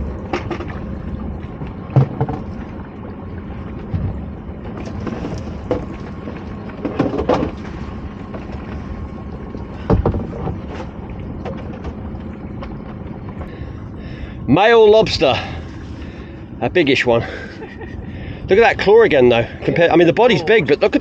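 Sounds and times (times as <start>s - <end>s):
low rumble of boat: 0.0s - 21.0s.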